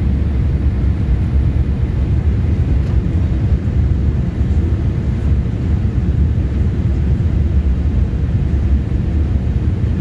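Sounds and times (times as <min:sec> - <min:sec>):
jet engines low rumble in cabin: 0:00.0 - 0:10.0.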